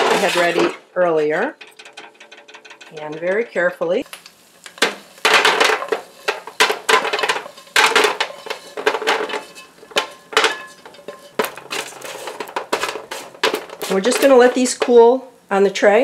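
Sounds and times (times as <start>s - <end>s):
wooden spoon scraping metal pan: 0.0s - 15.3s
nuts clattering onto baking sheet: 0.0s - 15.4s.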